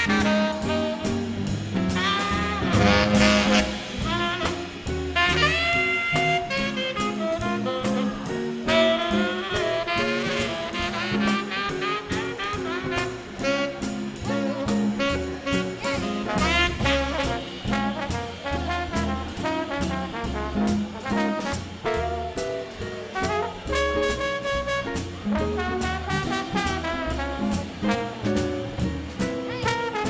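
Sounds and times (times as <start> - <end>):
swing band playing: 0.0 - 30.0.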